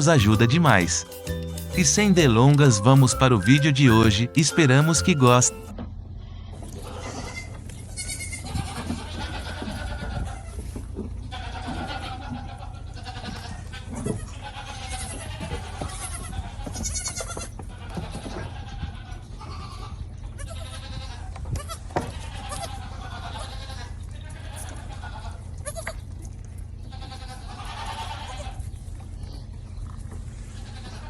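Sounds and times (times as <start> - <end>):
goat kids bleating: 0.0 - 5.6, 6.2 - 31.0.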